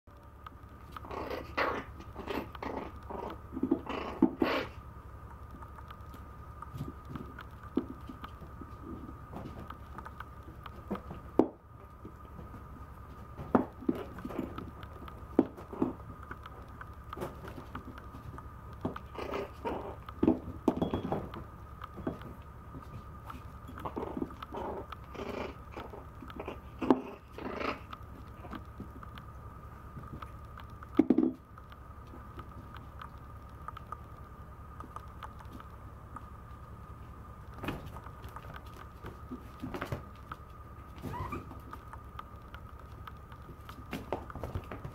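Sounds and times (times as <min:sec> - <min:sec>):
faint high whine: 0:00.1 - 0:44.9.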